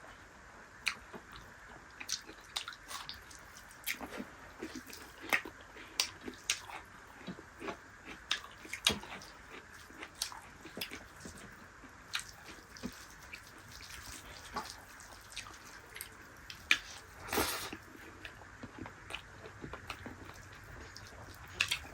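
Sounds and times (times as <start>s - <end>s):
wet chewing and mouth smacks: 2.0s - 21.9s.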